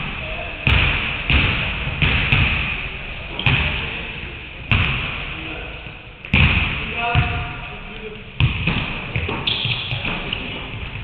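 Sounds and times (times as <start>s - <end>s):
basketballs bouncing on gym floor: 0.0s - 3.9s, 4.7s - 11.0s.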